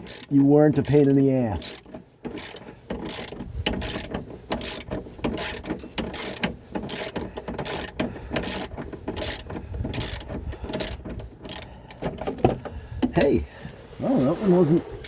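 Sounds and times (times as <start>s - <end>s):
socket ratchet clicking: 0.0s - 12.4s.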